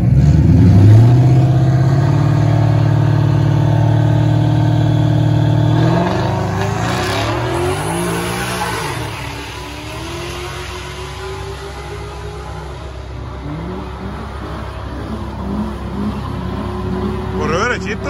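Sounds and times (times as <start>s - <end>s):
car engine revving and accelerating: 0.0s - 18.0s.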